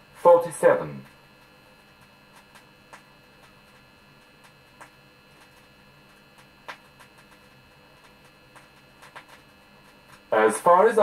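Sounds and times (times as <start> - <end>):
vinyl hum and hiss: 0.0 - 11.0
vinyl clicks and pops: 1.4 - 10.3.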